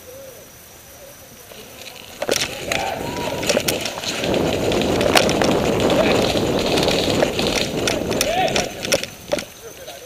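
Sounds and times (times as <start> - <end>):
running footsteps: 1.4 - 10.0
vegetation swishing: 1.4 - 10.0.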